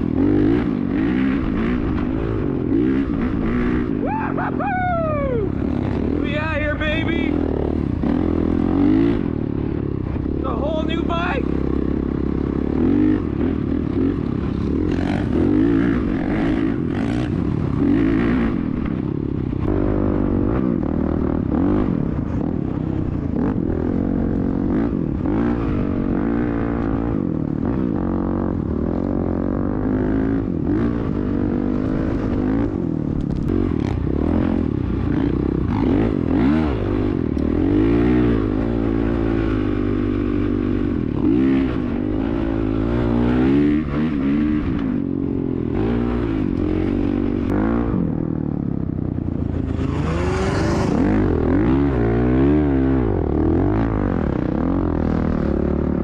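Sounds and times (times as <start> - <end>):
dirt bike engine revving: 0.0 - 48.5, 49.1 - 56.0.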